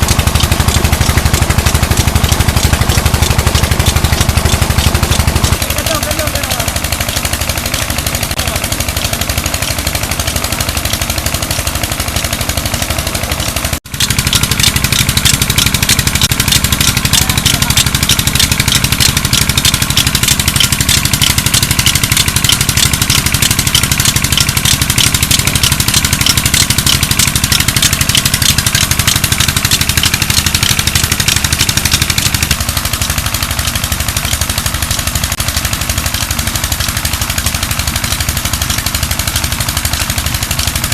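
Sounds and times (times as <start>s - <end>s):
diesel engine clattering: 0.0s - 40.9s.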